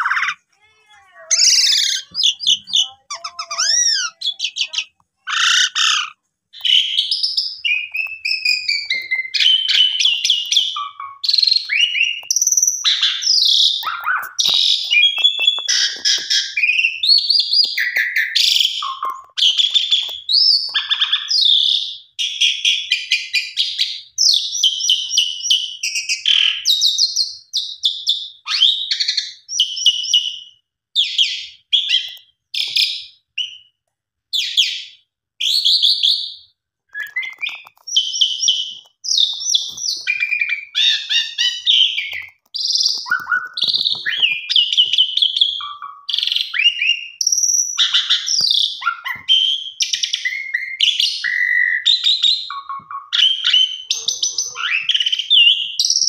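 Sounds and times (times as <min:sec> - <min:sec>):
starling singing: 0:00.0 - 0:33.7, 0:34.4 - 0:56.0.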